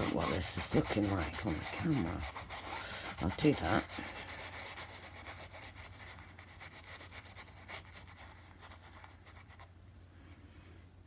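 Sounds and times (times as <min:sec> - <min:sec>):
paintbrush scratching: 0:00.0 - 0:09.8
low steady hum: 0:00.0 - 0:11.0.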